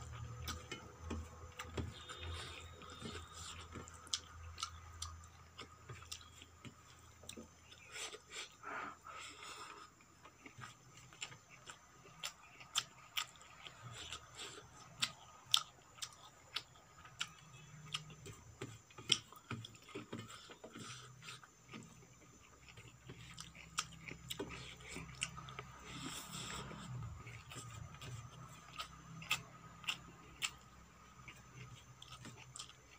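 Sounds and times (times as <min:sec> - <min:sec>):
close chewing with wet mouth clicks: 0:00.1 - 0:08.6, 0:09.3 - 0:32.9.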